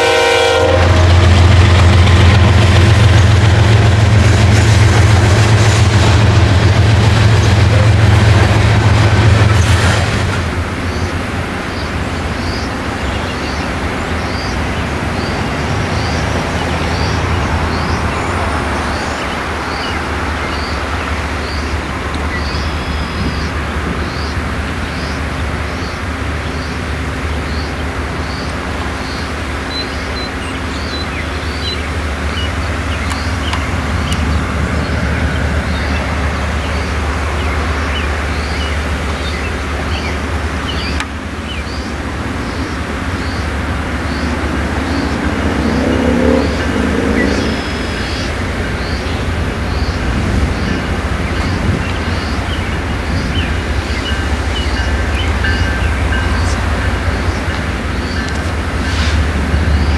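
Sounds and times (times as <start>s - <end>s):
freight train rumbling and rattling: 0.0s - 59.9s.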